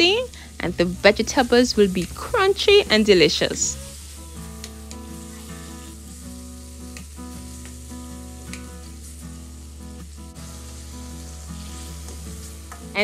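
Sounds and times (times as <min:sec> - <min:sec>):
meat and peppers sizzling in oil: 0:00.0 - 0:13.0
quiet background music: 0:00.0 - 0:13.0.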